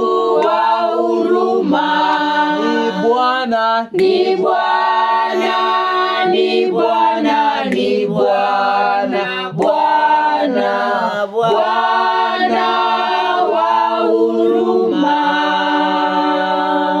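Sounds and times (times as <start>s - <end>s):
choir singing unaccompanied: 0.0s - 17.0s.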